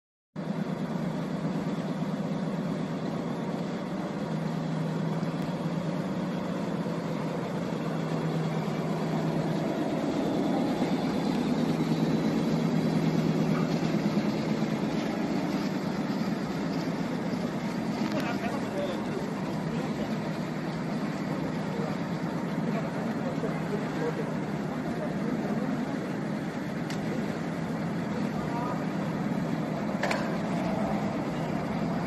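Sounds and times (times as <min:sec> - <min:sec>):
belt conveyor humming: 0:00.4 - 0:32.0.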